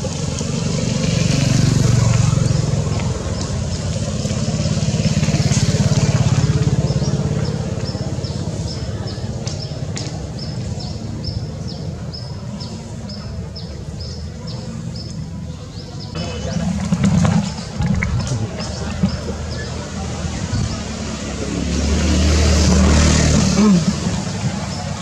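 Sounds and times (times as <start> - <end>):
engine running: 0.0 - 14.6, 16.0 - 25.0.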